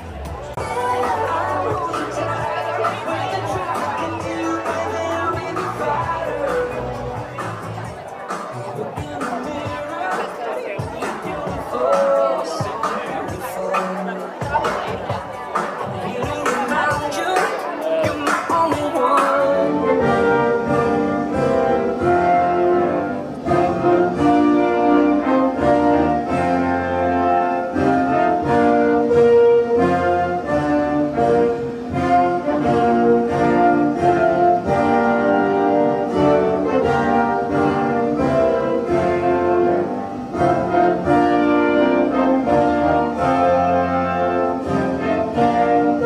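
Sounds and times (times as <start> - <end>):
orchestral music: 0.0 - 46.0.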